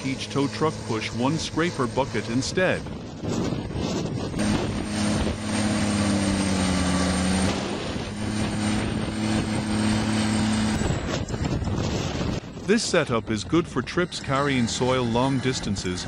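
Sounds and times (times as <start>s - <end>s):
heavy diesel tractor engines: 0.0s - 16.0s.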